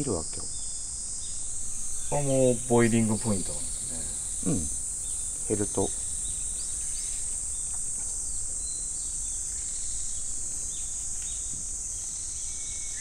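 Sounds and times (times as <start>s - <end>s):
faint bird chirps: 0.0s - 13.0s
insects chorus: 0.0s - 13.0s.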